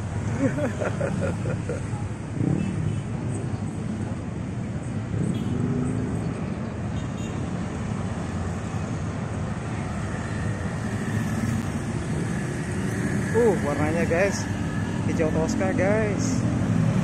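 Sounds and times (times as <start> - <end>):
motorcycles and cars passing: 0.0 - 17.0.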